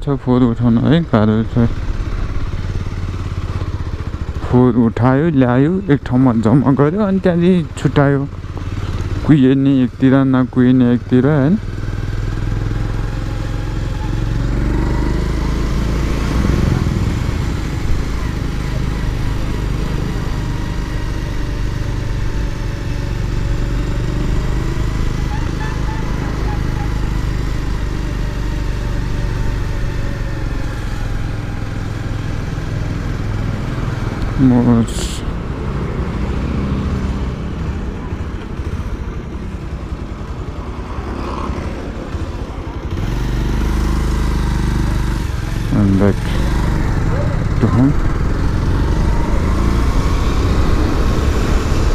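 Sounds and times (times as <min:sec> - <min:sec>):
motorcycle engine running: 0:00.0 - 0:51.9
road noise: 0:00.0 - 0:51.9.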